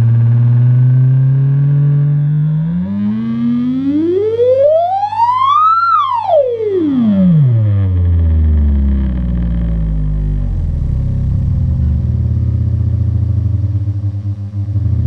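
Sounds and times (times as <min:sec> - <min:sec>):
test tone gliding in pitch: 0:00.0 - 0:15.0.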